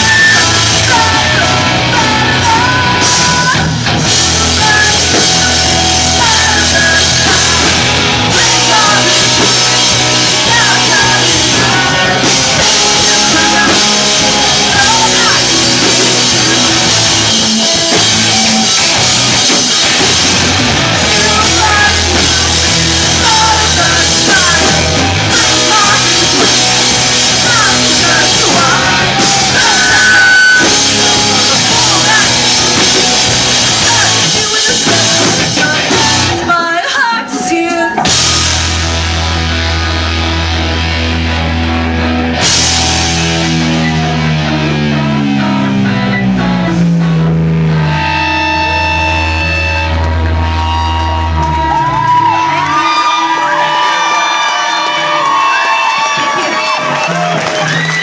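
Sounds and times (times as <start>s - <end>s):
drum kit: 0.0s - 36.8s, 37.4s - 58.0s
bass guitar: 0.0s - 58.0s
distorted electric guitars: 0.0s - 58.0s.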